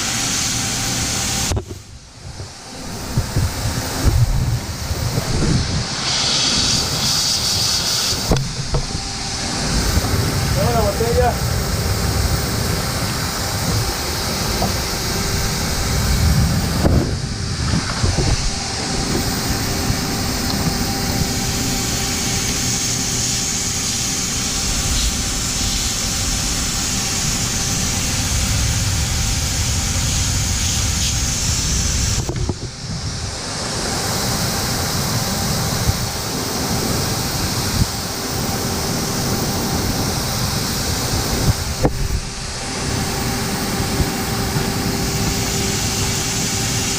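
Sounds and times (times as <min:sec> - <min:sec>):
vacuum cleaner blowing air: 0:00.0 - 0:46.9.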